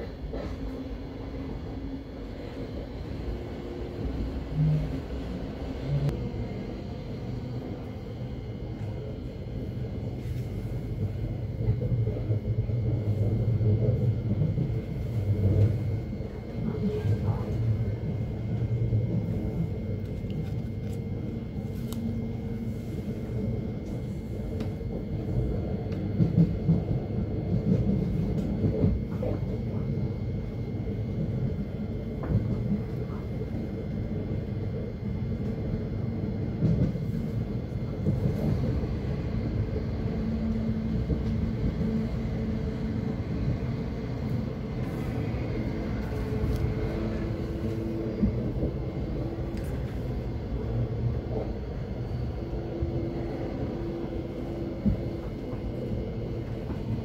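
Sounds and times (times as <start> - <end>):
train wheels rumbling on rails: 0.0 - 57.0
electrical hum: 2.0 - 57.0.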